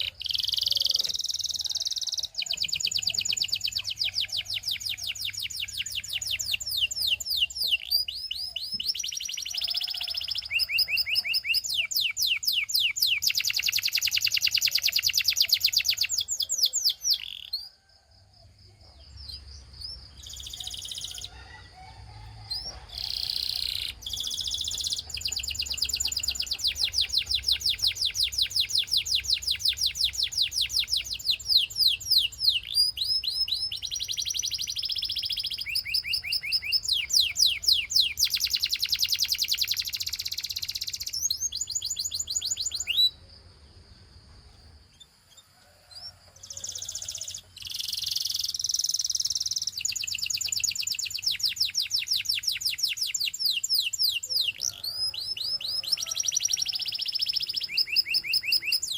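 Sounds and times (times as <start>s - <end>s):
canary singing trills: 0.0s - 17.9s, 18.6s - 43.6s, 44.5s - 58.9s.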